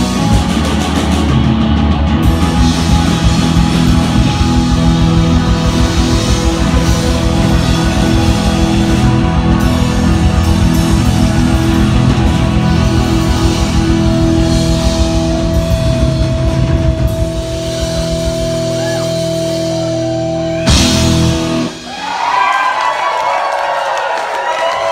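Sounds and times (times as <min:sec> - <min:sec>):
live rock band playing: 0:00.0 - 0:22.8
crowd cheering: 0:02.2 - 0:24.9.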